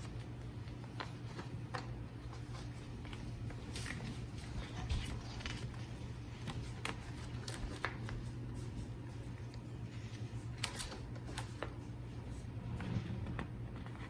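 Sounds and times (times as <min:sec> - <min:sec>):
paper and packaging rustling: 0:00.0 - 0:12.0
low steady hum: 0:00.0 - 0:14.0.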